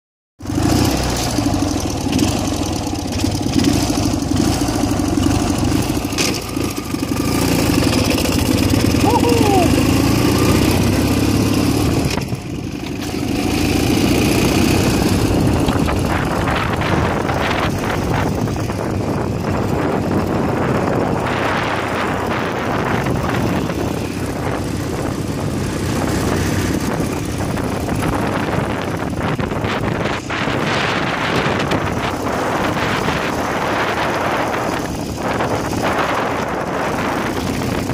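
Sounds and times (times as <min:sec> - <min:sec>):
motorcycle engine running: 0:00.4 - 0:37.9.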